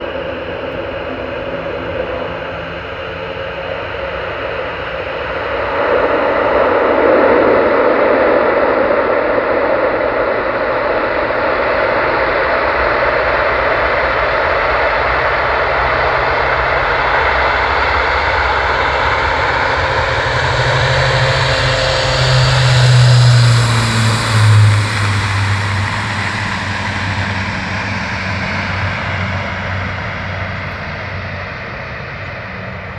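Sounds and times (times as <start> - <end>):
turboprop engines running: 0.0 - 32.9.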